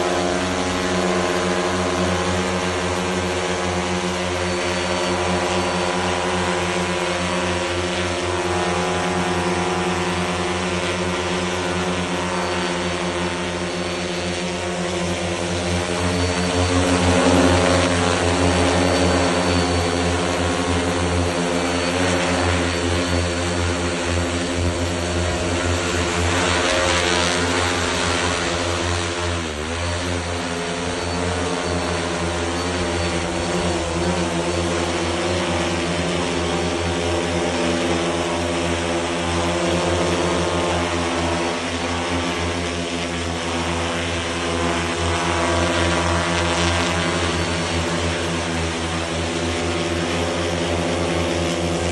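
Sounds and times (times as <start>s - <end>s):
drone propellers whirring: 0.0s - 51.9s.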